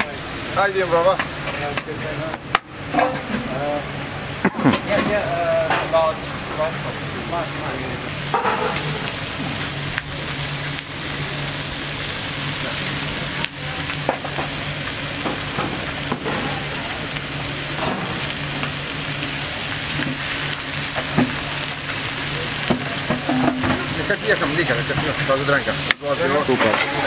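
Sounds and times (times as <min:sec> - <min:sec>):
food sizzling: 0:00.0 - 0:27.0.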